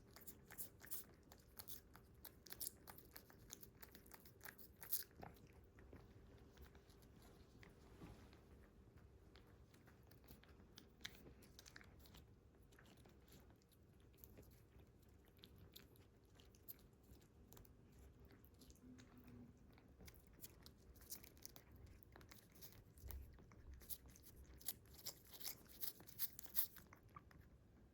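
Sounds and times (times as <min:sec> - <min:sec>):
cats licking and lapping: 0:00.0 - 0:27.9.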